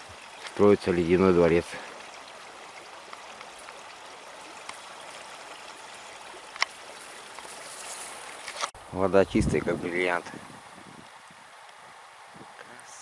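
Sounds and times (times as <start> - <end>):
stream water trickling: 0.0 - 12.8.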